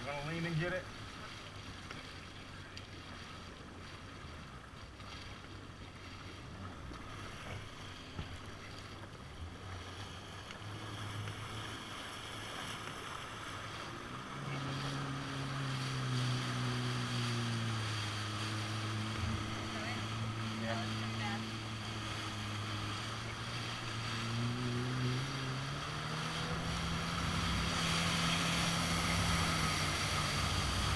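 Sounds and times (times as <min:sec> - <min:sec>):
jet ski engine: 0:00.0 - 0:30.9
water splashing: 0:00.0 - 0:30.9.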